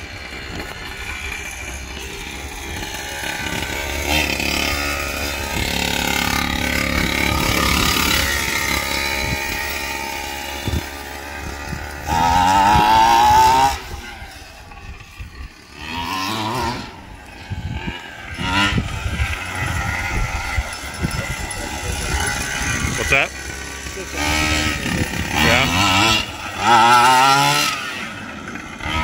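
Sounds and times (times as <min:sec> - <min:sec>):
small two-stroke engine revving: 0:00.0 - 0:29.0.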